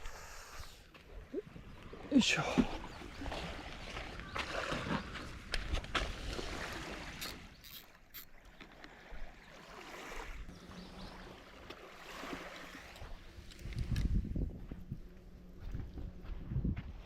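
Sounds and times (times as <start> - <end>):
water lapping against boat hull: 0.9 - 16.1.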